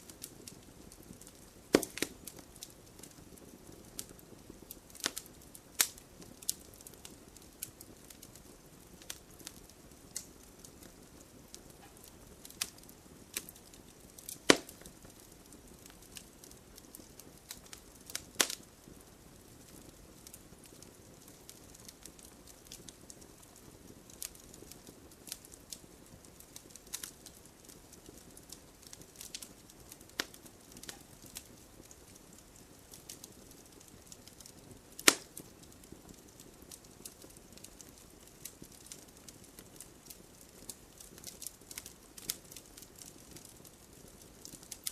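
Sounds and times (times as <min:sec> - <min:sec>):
campfire crackling: 0:00.0 - 0:44.9.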